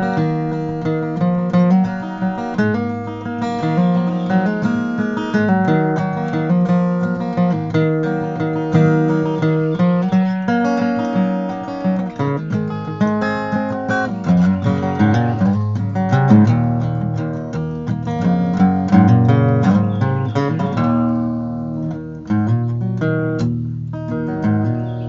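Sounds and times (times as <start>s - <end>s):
acoustic guitar strumming and picking: 0.0s - 25.0s.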